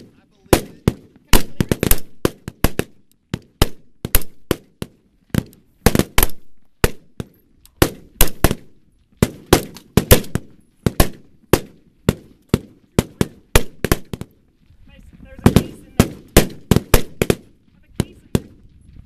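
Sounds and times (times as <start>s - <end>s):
rifle shots echoing: 0.0s - 14.4s, 15.4s - 18.6s.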